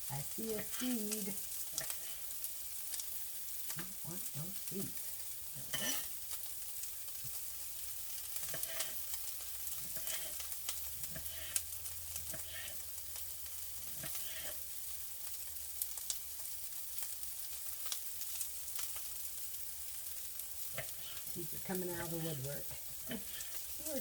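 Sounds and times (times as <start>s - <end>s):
peppers sizzling in a pan: 0.0s - 24.0s.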